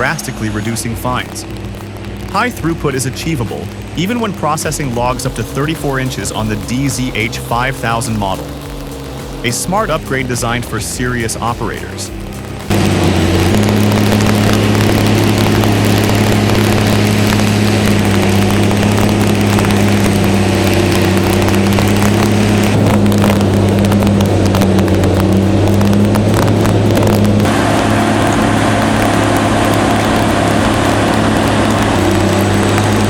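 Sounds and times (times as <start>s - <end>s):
low engine hum: 0.0s - 33.0s
wood crackling and snapping: 0.0s - 33.0s.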